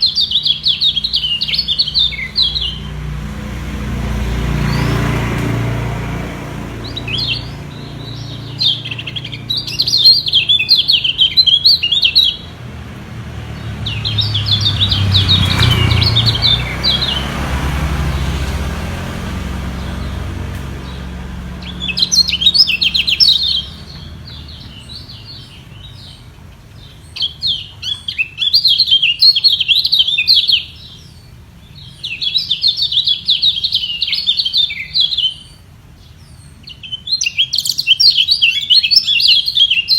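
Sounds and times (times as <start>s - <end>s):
songbirds chattering song: 0.0s - 39.9s.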